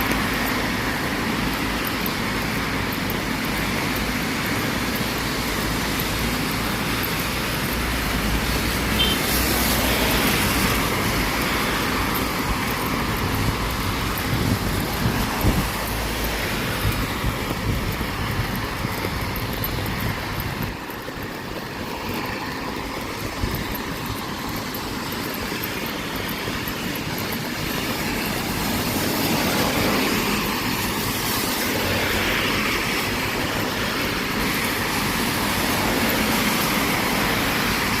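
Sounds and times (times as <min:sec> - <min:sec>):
steady rain hiss: 0:00.0 - 0:38.0.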